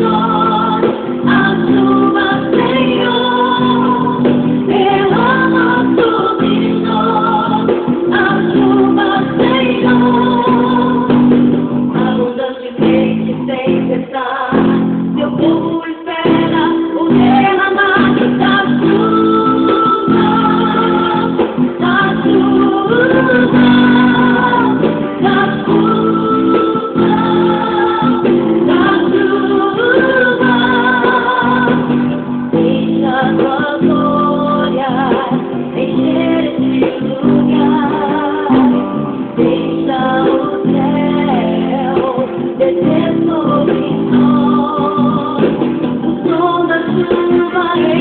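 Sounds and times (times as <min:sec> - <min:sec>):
guitar: 0:00.0 - 0:48.0
person singing: 0:00.0 - 0:48.0.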